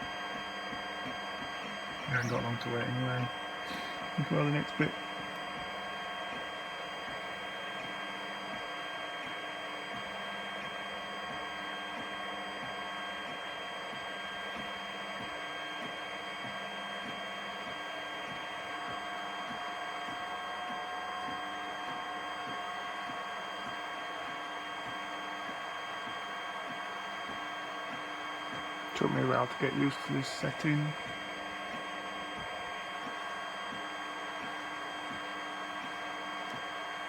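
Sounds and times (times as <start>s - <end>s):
printer motor whine: 0.0s - 37.0s.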